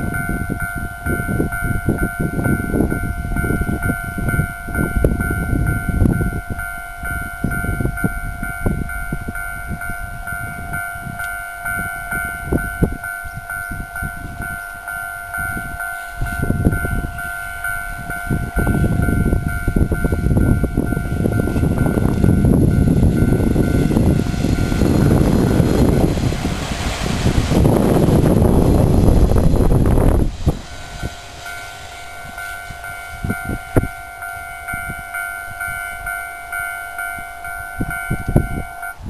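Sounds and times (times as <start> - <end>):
level crossing bell dinging: 0.0 - 26.1, 30.8 - 39.0
gusty low rumble: 0.0 - 39.0.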